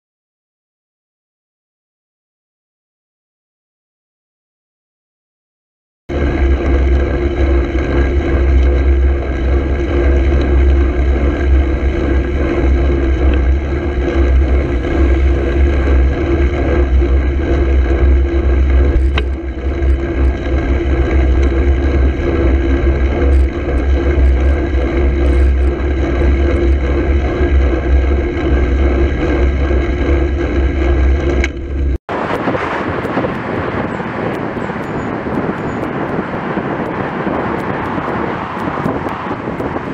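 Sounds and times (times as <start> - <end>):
road and traffic noise: 6.1 - 39.9
wind rumble on microphone: 6.1 - 39.9.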